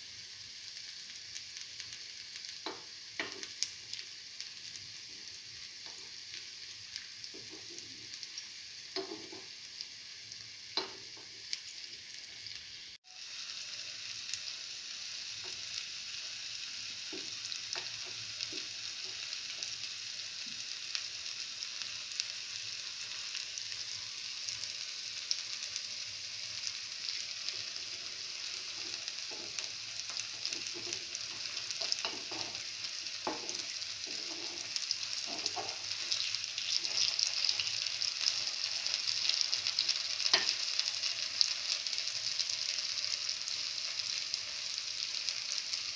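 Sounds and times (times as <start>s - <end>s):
fritters sizzling in hot oil: 0.0s - 45.9s.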